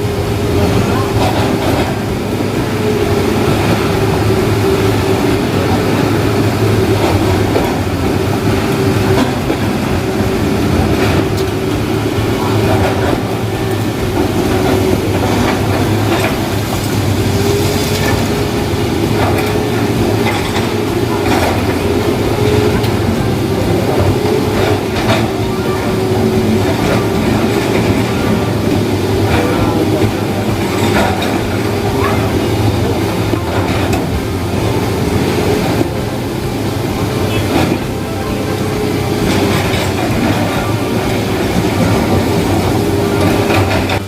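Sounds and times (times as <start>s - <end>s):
excavator engine drone: 0.0s - 44.0s
hydraulic breaker hammering rock: 0.0s - 44.0s.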